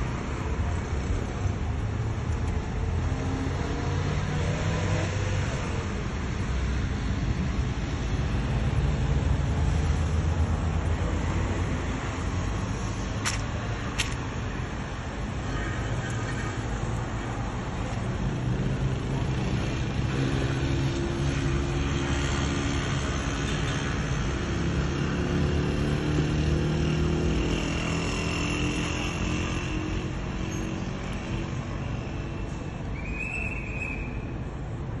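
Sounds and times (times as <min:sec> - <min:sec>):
road noise: 0:00.0 - 0:35.0
vehicle engines humming: 0:00.0 - 0:35.0.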